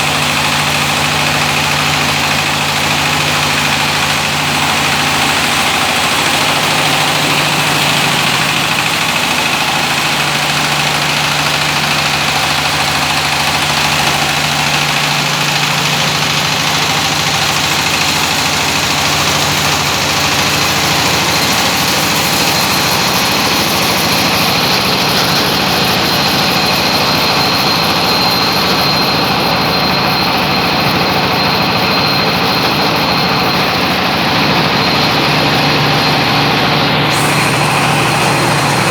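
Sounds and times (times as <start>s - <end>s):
diesel engine driving a mill: 0.0s - 38.9s
high mechanical whine: 0.0s - 38.9s.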